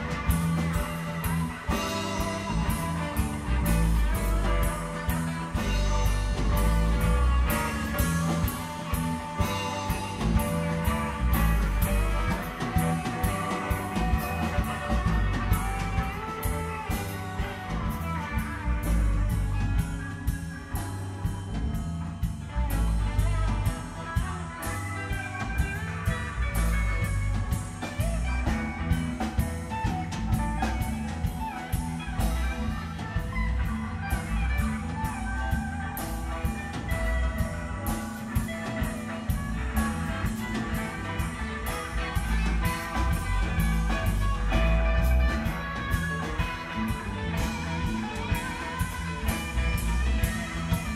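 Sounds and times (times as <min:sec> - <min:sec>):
bass guitar: 0:00.0 - 0:50.9
drum kit beat: 0:00.0 - 0:50.9
electric guitar lead lines: 0:00.0 - 0:50.9.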